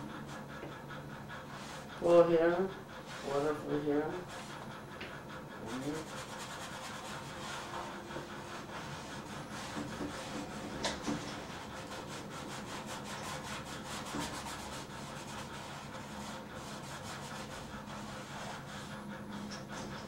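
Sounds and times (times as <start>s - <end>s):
paintbrush scrubbing canvas: 1.3s - 20.0s.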